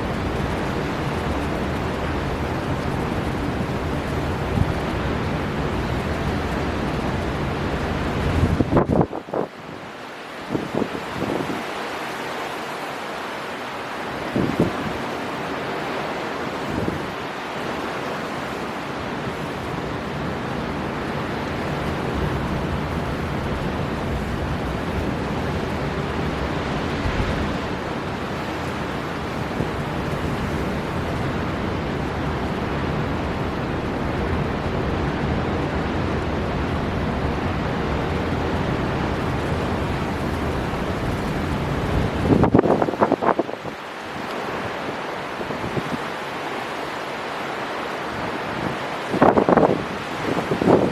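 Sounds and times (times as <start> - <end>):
storm wind blowing: 0.0 - 50.9
waves surging: 0.0 - 50.9.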